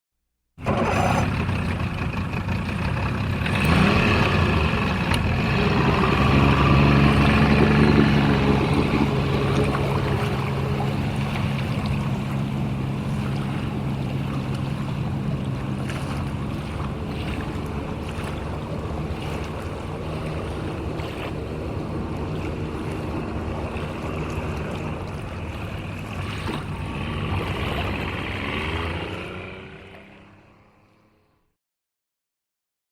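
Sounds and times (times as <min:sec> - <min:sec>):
heavy truck engine rumbling: 0:00.6 - 0:30.4.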